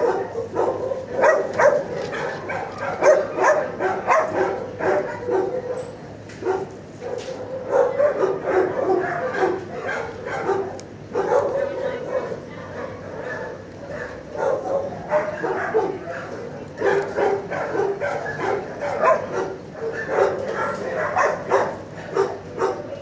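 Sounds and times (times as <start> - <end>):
dogs barking: 0.0 - 23.0.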